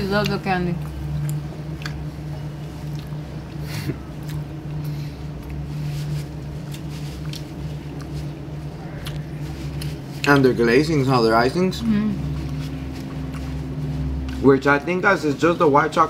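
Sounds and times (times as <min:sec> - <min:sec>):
chewing and wet mouth sounds: 0:00.0 - 0:15.6
low hum: 0:00.0 - 0:16.0.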